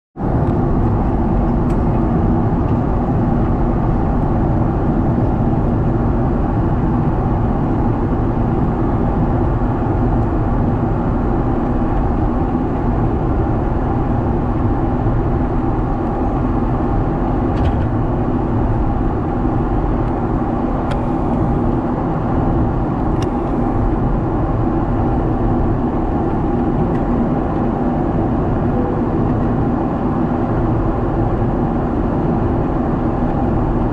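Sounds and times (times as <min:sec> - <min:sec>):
airliner cabin engine roar: 0:00.2 - 0:33.9.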